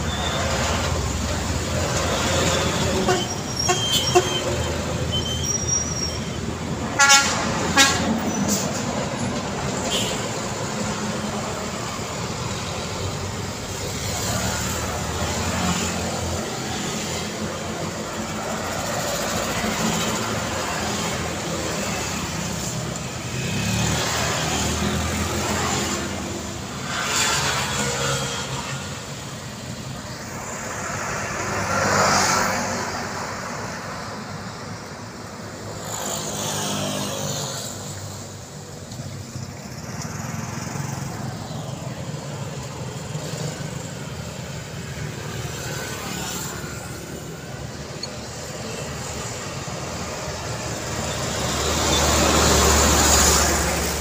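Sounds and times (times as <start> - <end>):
scooters and cars passing: 0.0 - 54.0.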